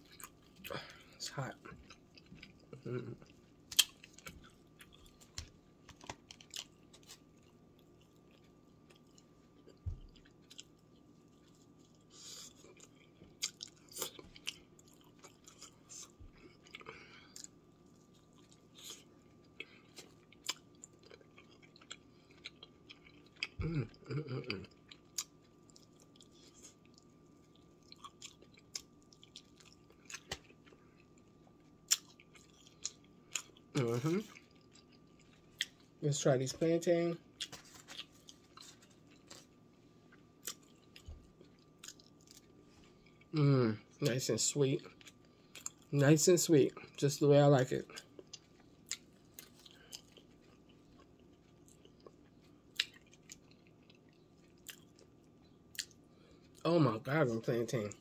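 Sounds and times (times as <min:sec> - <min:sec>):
person chewing crispy food: 0:00.0 - 0:36.0, 0:37.2 - 0:43.4, 0:44.8 - 0:46.0, 0:47.8 - 0:56.7.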